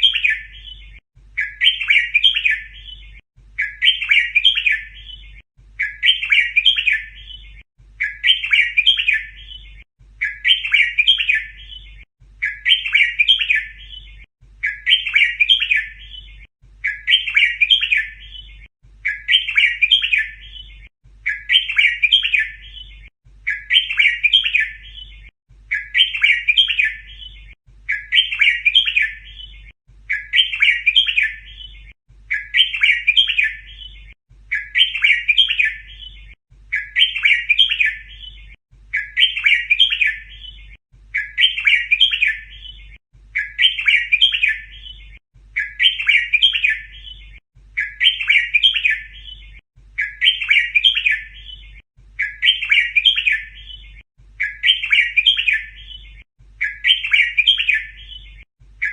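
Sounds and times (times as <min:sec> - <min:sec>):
bulbul chirpy song: 0:00.0 - 0:58.9.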